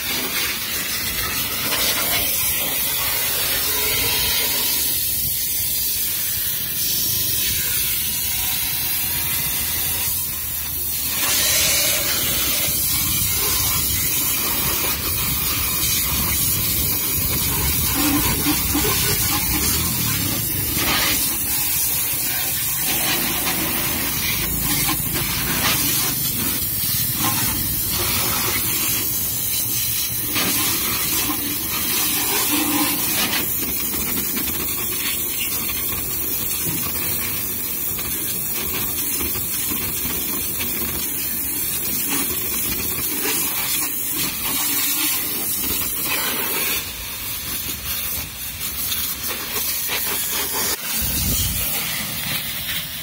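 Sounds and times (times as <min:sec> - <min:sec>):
pressure washer jet hissing: 0:00.0 - 0:53.0.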